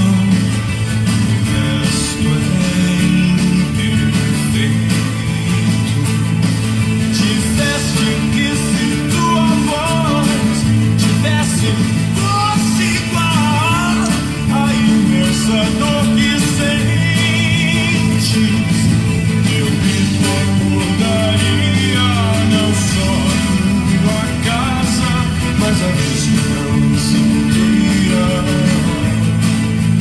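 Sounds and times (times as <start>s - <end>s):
person singing: 0.0s - 6.3s, 7.0s - 29.4s
band with prominent bass line: 0.0s - 30.0s.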